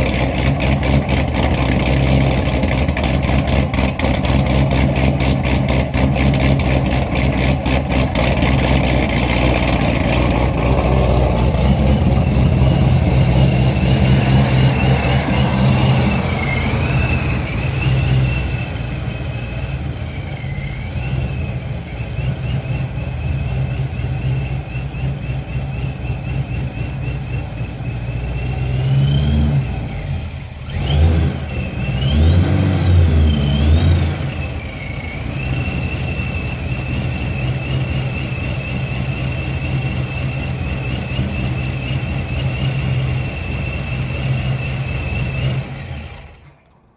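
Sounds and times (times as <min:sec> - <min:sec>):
car engine lumpy idle: 0:00.0 - 0:28.9, 0:29.7 - 0:32.2, 0:34.2 - 0:46.9
engine throttle blips: 0:00.0 - 0:46.9
supercharger whine: 0:00.0 - 0:46.9.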